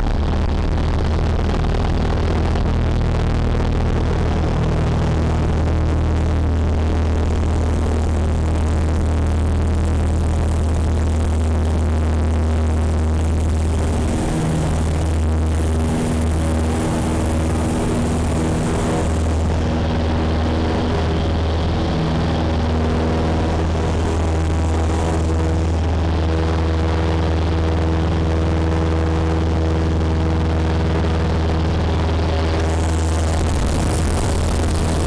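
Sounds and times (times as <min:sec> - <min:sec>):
propeller plane engine drone: 0:00.0 - 0:35.0.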